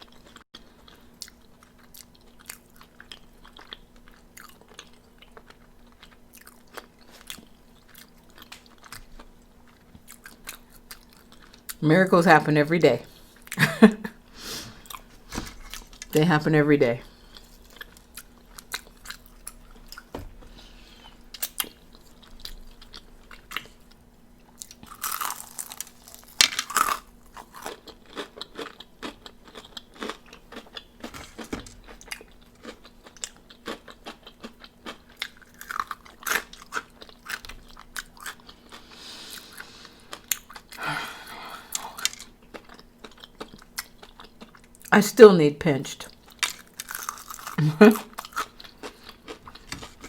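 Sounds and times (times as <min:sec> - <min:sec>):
chewing crunchy fried chicken: 0:00.0 - 0:11.8, 0:13.0 - 0:16.2, 0:17.0 - 0:44.9, 0:46.0 - 0:50.0.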